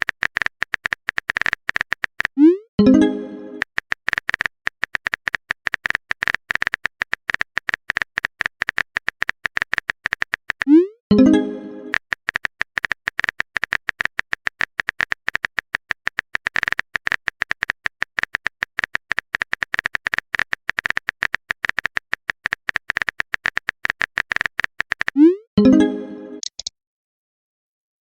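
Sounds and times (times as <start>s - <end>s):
phone keyboard tapping clicks: 0.0s - 2.4s, 3.6s - 10.8s, 11.9s - 25.2s, 26.4s - 26.7s.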